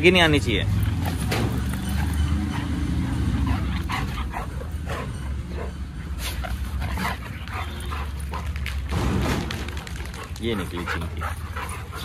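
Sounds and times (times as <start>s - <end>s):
dogs yipping and barking: 0.9s - 8.8s, 10.0s - 12.0s.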